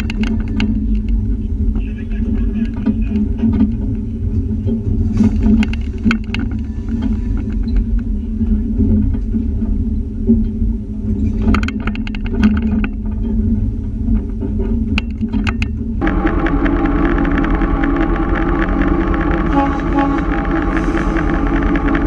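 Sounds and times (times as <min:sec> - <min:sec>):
clicks and clacks: 0:00.0 - 0:22.0
locomotive engine rumbling: 0:00.0 - 0:22.0.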